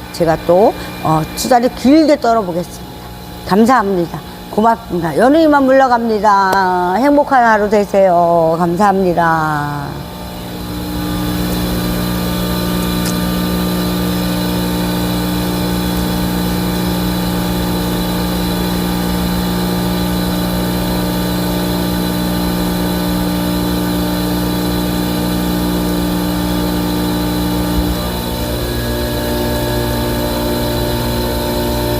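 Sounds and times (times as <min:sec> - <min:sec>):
machine humming: 0:00.0 - 0:31.9.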